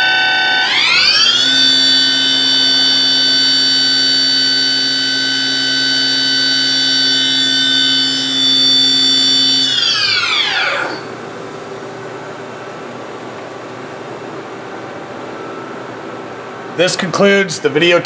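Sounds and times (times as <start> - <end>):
machine hum: 0.0 - 17.8
spindle high-pitched whine: 0.0 - 18.0.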